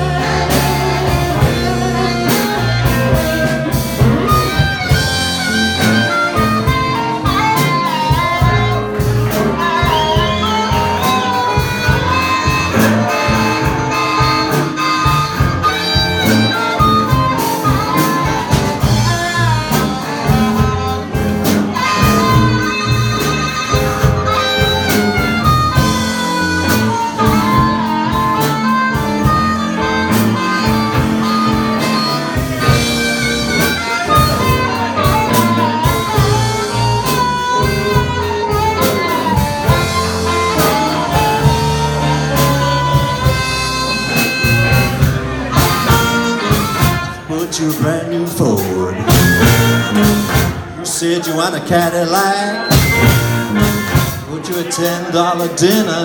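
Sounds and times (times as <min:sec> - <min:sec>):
blues band playing: 0:00.0 - 0:56.0
lead instrument soloing: 0:00.0 - 0:56.0.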